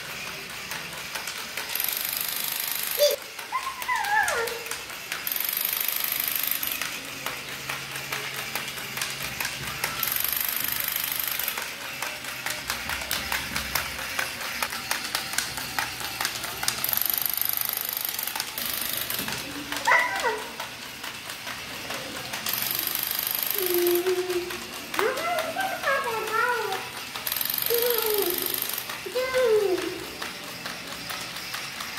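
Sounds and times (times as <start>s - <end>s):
toy rapid rattling clatter: 0.0s - 31.9s.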